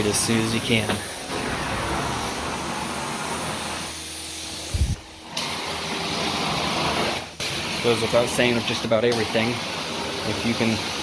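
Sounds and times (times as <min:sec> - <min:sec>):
carpet cleaning wand hissing: 0:00.0 - 0:11.0.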